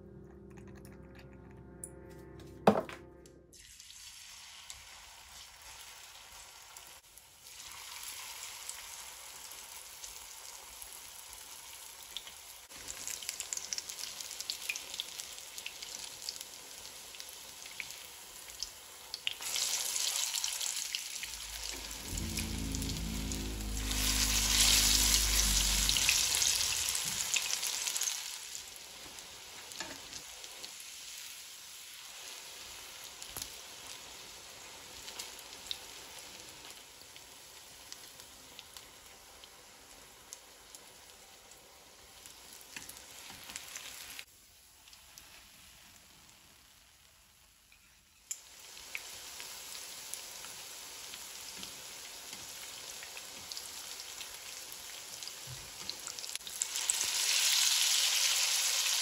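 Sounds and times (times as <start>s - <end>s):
fritters sizzling in oil: 3.6s - 59.0s.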